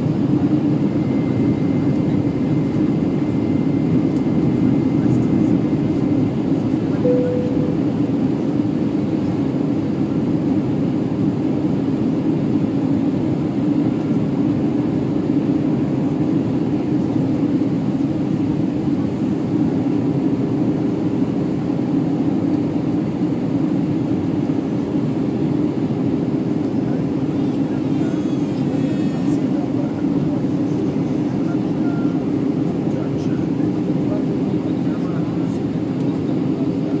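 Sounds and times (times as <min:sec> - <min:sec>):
aircraft cabin engine and airflow rush: 0:00.0 - 0:37.0.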